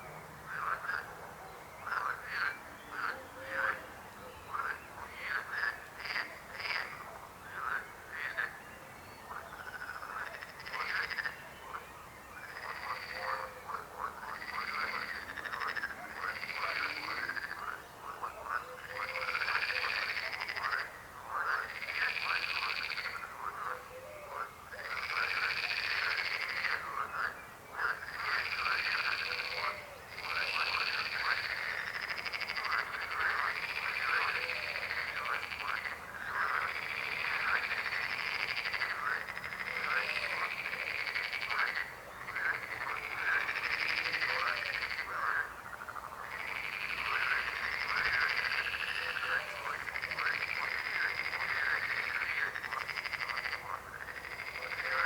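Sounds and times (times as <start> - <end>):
chorus of frogs croaking: 0.0 - 55.0.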